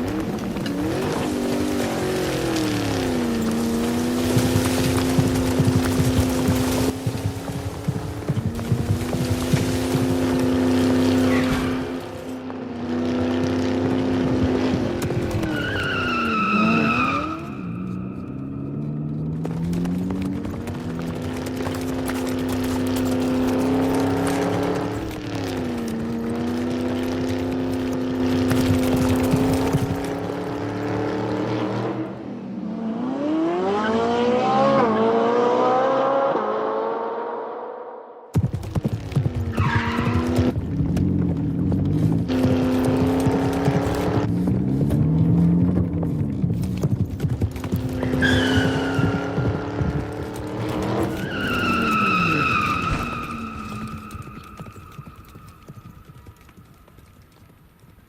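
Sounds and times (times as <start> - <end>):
car engine revving: 0.0 - 38.2, 39.5 - 55.0.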